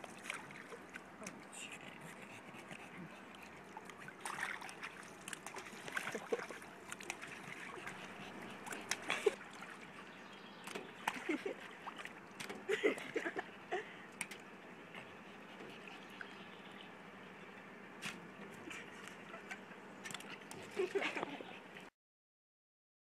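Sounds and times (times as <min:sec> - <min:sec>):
pool water splashing: 0:00.0 - 0:21.9.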